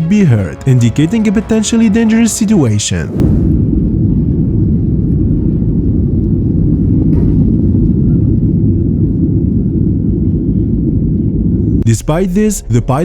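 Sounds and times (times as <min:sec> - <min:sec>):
airliner taking off: 0:00.0 - 0:13.0.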